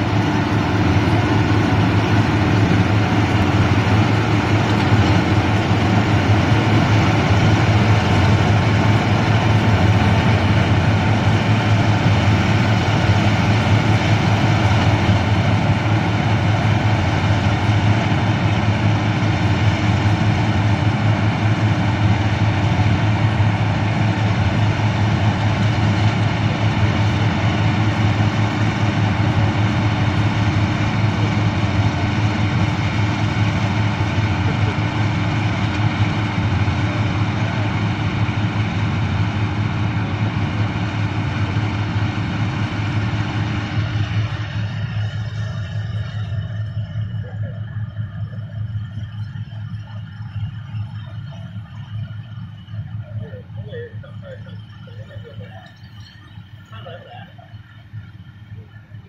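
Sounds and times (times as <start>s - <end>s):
combine harvester engine hum: 0.0s - 59.0s
threshing and baling machinery: 0.0s - 59.0s.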